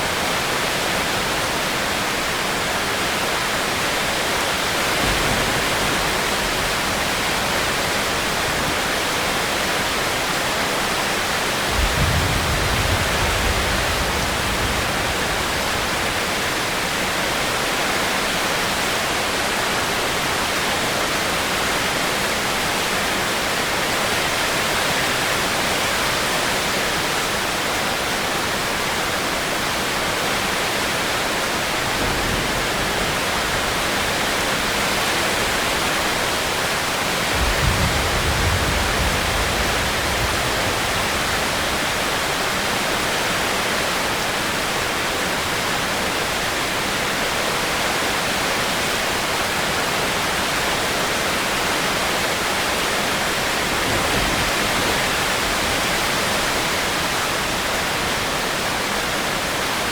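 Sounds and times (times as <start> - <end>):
heavy rain hissing: 0.0 - 22.1, 22.8 - 59.9.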